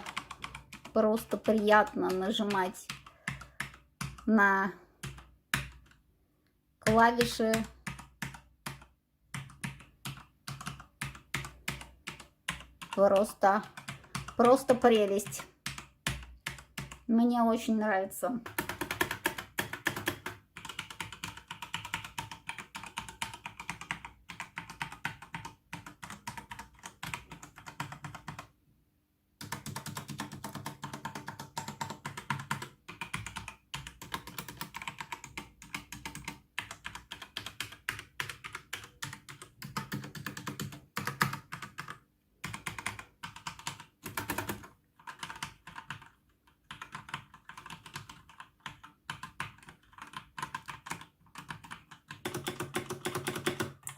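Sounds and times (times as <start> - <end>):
typing on computer keyboard: 0.0 - 6.0, 6.8 - 17.1, 18.4 - 28.5, 29.4 - 53.9.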